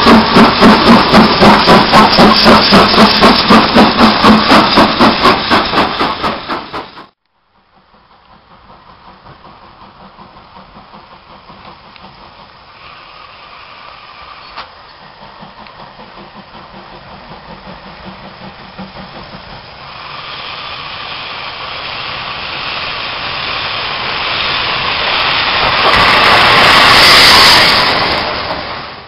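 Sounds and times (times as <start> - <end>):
steam locomotive beat: 0.0 - 28.9
hiss of steam: 0.0 - 29.0
locomotive running noise: 0.0 - 29.0.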